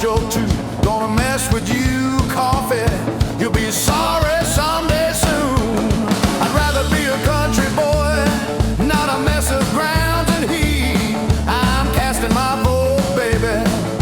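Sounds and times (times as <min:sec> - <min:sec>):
bass line: 0:00.0 - 0:14.0
blues rock band playing: 0:00.0 - 0:14.0
drums: 0:00.0 - 0:14.0.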